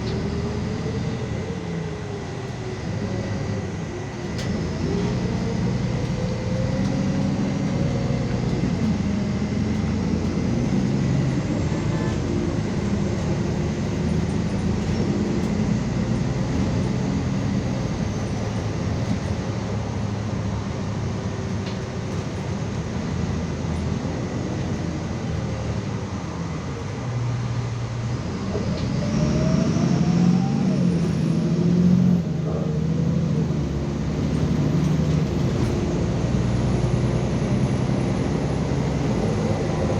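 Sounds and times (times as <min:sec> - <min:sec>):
bus engine and drivetrain hum: 0:00.0 - 0:39.9.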